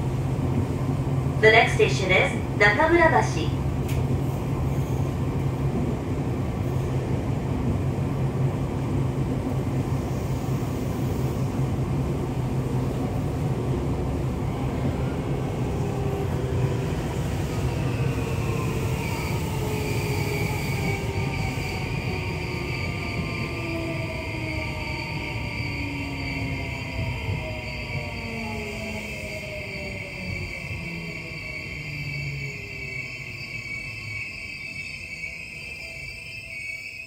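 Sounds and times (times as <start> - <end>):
train wheels rumbling on rail: 0.0 - 34.4.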